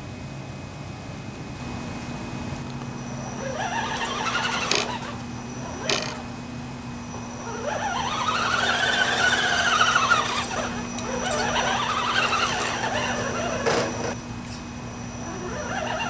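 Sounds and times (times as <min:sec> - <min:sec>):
electric motor and gears whining: 0:02.6 - 0:16.0.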